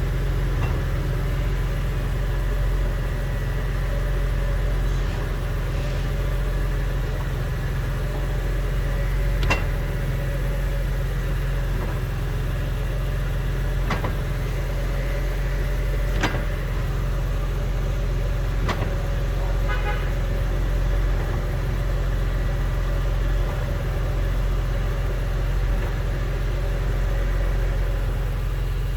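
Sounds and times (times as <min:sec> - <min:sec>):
car engine low hum: 0:00.0 - 0:28.9.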